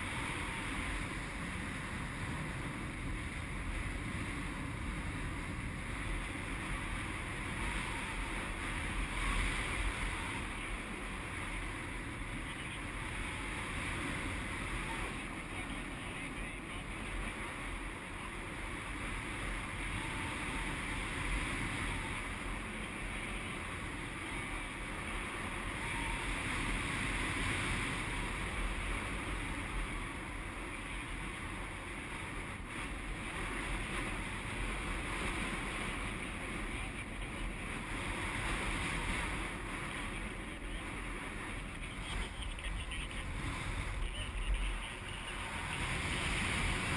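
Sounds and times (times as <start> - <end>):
wind noise on microphone: 0.0 - 46.9.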